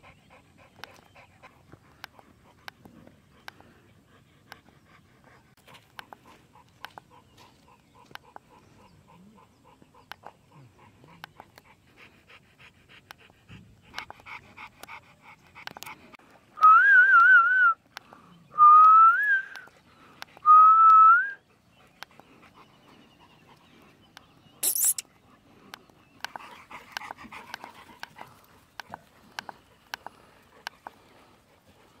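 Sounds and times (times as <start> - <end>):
dog panting: 0.0 - 16.6, 19.4 - 20.5, 21.1 - 32.0.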